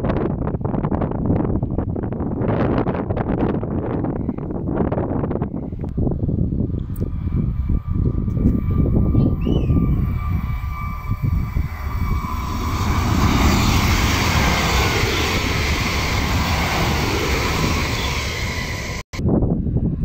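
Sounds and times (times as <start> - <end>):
wind rumbling on microphone: 0.0 - 20.0
high-speed train passing: 0.1 - 20.0.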